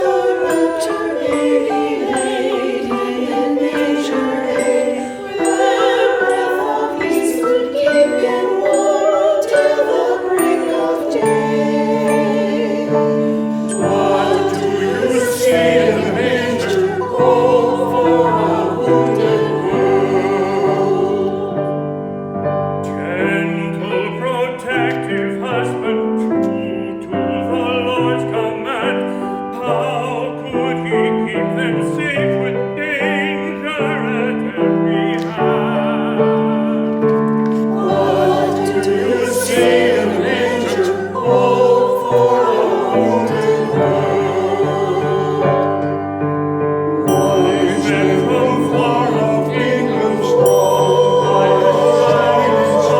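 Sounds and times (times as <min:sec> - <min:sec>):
choir singing: 0:00.0 - 0:52.9
keyboard accompaniment: 0:00.0 - 0:52.9.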